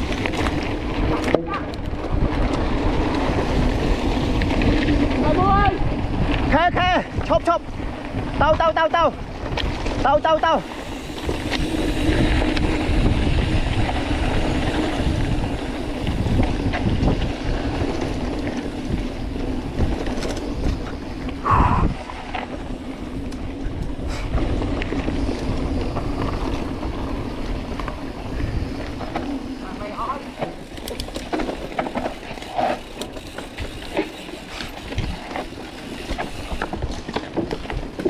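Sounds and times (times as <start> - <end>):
bike rumbling and rattling: 0.0 - 38.0
wind buffeting microphone: 0.0 - 38.0.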